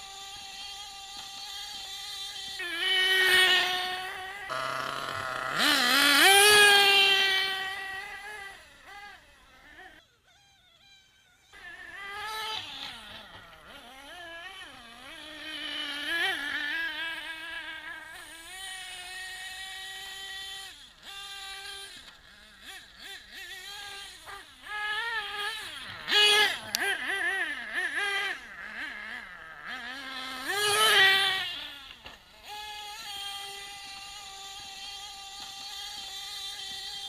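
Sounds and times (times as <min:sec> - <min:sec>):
small nitro engine revving: 0:00.0 - 0:37.0.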